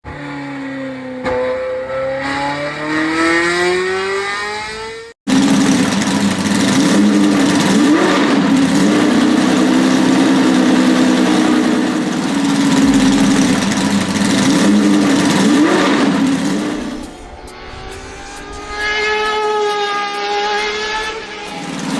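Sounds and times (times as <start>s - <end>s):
steady car engine with rushing: 1.9s - 21.9s
car engine accelerating: 2.0s - 21.9s.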